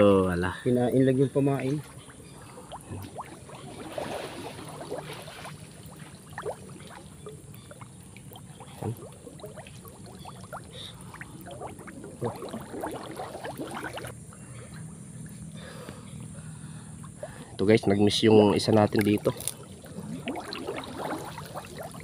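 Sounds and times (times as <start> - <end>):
water sloshing around wading person: 1.4 - 15.4, 17.0 - 22.0.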